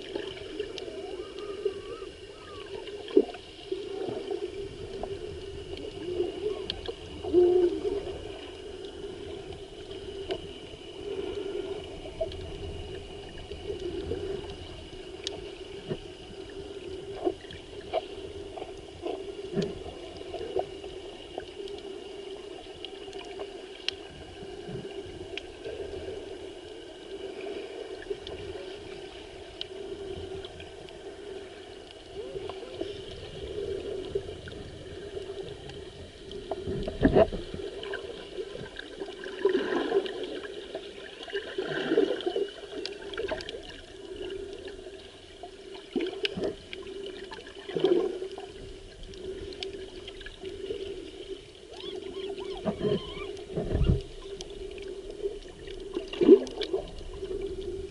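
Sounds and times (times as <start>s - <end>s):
underwater water sloshing: 0.0s - 57.9s
water surges: 0.0s - 57.9s.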